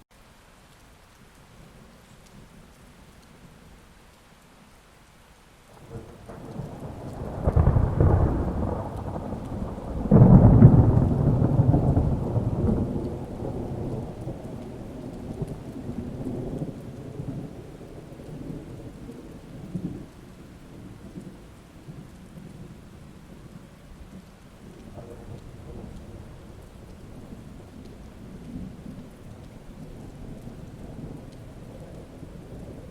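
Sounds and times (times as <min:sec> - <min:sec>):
steady rain: 0:00.0 - 0:32.9
thunder rumbling: 0:05.7 - 0:32.9.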